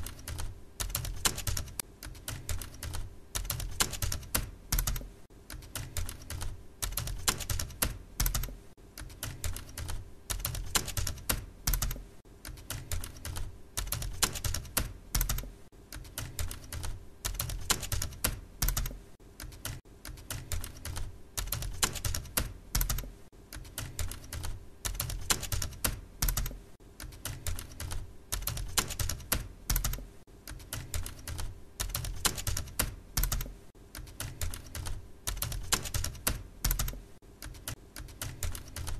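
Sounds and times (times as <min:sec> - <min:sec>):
typing on a keyboard: 0:00.0 - 0:38.9.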